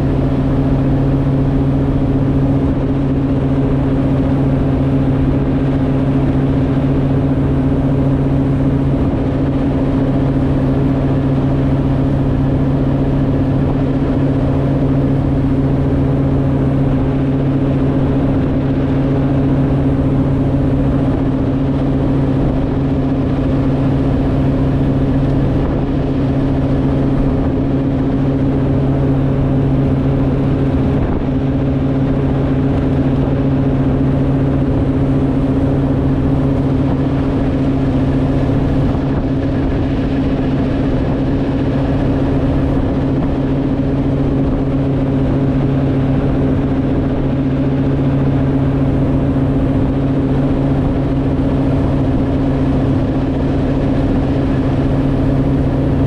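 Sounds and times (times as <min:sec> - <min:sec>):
boat engine drone: 0:00.0 - 0:56.0
rushing wake and spray: 0:00.0 - 0:56.0.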